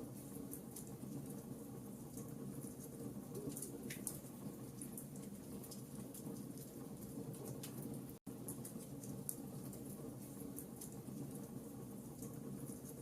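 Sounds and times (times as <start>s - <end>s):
fire crackles and pops: 0.3s - 13.0s.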